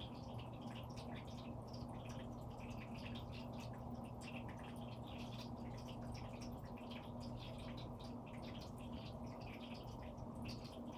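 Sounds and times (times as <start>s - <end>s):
low pump hum: 0.0s - 10.9s
water trickling and dripping: 0.0s - 10.9s.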